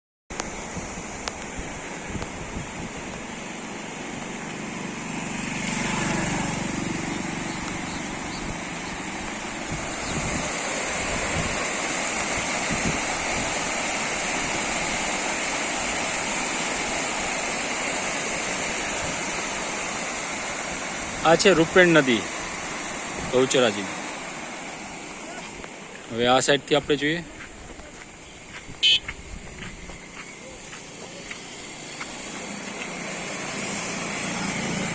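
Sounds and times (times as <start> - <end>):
river rushing in flood: 0.4 - 34.9.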